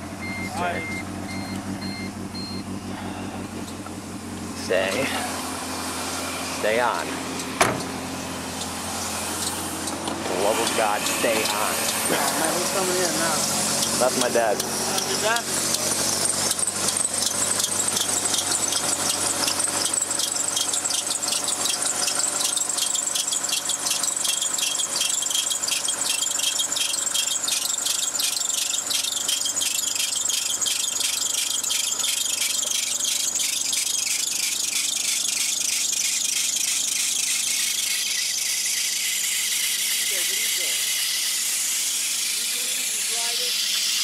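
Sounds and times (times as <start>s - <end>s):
car engine running: 0.0s - 44.0s
high pulsing squealing hiss: 5.3s - 44.0s.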